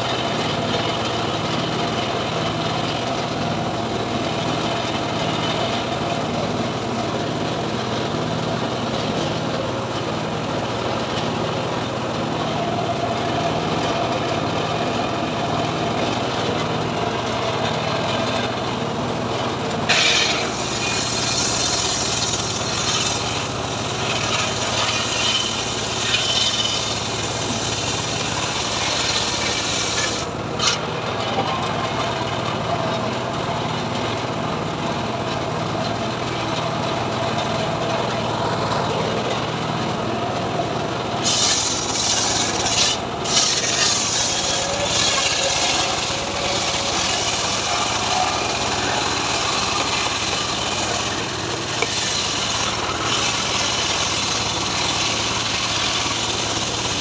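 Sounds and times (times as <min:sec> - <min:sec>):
circular saw cutting log: 0:00.0 - 0:34.1, 0:41.0 - 0:57.0.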